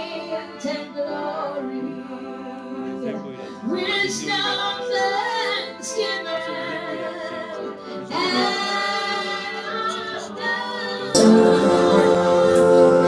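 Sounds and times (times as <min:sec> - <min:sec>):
voices singing long notes: 0:00.0 - 0:13.0.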